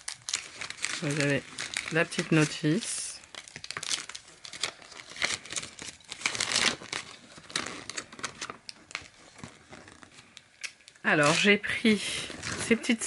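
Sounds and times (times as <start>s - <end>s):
paper leaflet crinkling: 0.0s - 13.0s.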